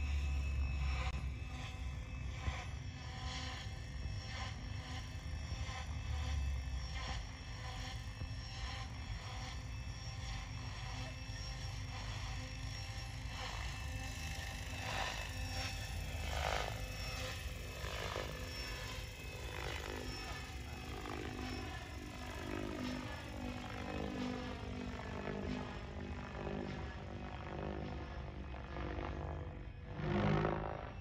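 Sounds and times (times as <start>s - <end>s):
model helicopter rotor drone: 0.0s - 31.0s.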